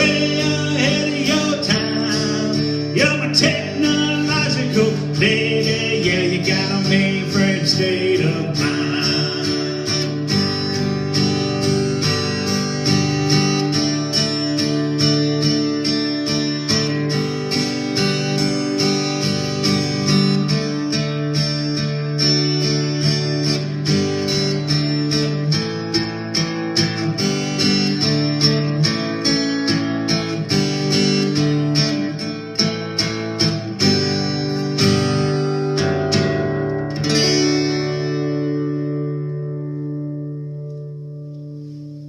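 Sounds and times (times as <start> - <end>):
strummed guitar: 0.0 - 42.0.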